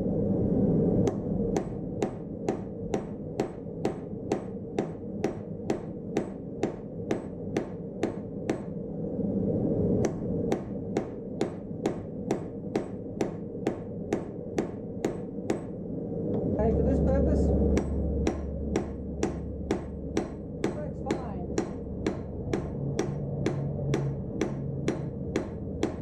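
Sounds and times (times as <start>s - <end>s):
steady rushing noise: 0.0s - 26.0s
hammer striking steel on anvil: 1.1s - 8.7s, 10.0s - 15.8s, 17.8s - 26.0s.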